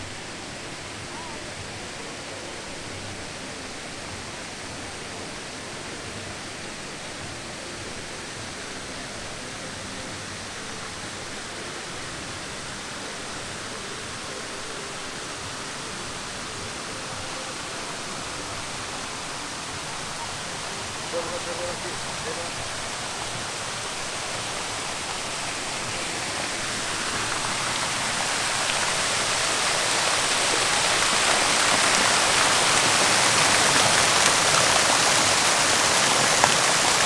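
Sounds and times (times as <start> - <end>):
fountain water splashing: 0.0 - 37.0.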